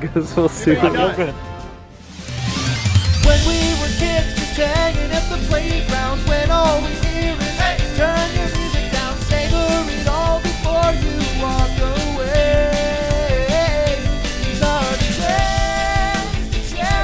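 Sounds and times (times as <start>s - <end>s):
rock background music: 1.9s - 17.0s.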